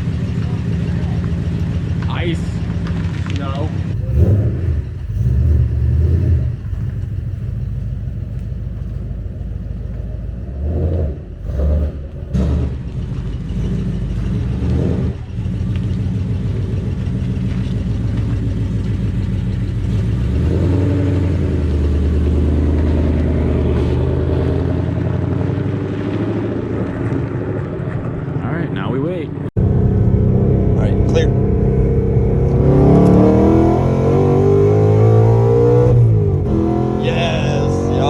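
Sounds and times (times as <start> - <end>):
car engine running while driving: 0.0 - 38.0.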